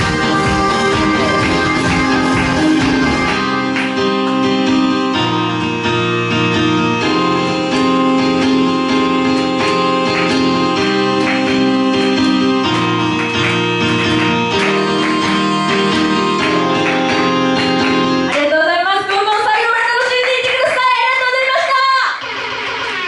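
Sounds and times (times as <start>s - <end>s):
electronic backing track: 0.0s - 19.8s, 20.8s - 23.0s.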